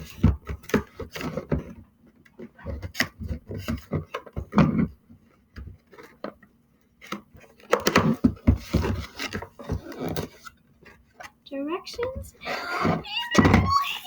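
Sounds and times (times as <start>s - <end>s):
plastic and cardboard crackling: 0.0s - 14.0s.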